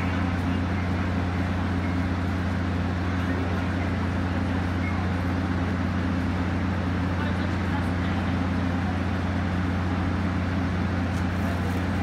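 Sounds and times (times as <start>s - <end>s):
train diesel engines idling: 0.0s - 12.0s.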